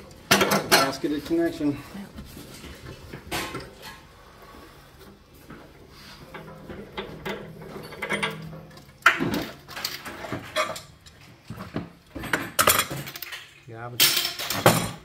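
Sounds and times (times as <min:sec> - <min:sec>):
metal fittings clanking and scraping: 0:00.3 - 0:01.7, 0:02.4 - 0:15.0.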